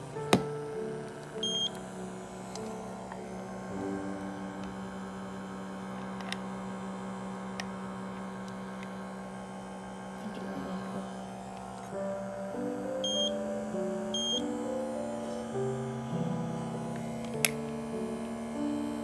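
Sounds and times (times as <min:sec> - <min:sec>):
small electric motor humming: 0:00.0 - 0:19.0.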